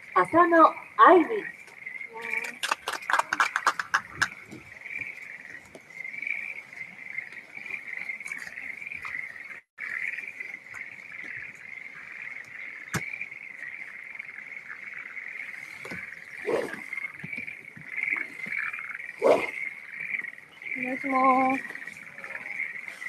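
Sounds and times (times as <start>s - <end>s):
chorus of frogs: 0.0s - 23.0s.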